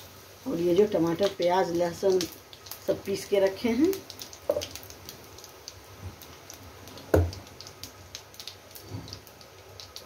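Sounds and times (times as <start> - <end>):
seeds crackling in hot oil: 0.0 - 10.0.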